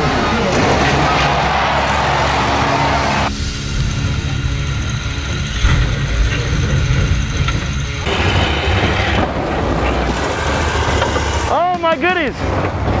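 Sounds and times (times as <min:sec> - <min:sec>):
motorhome engine rumbling: 0:00.0 - 0:13.0.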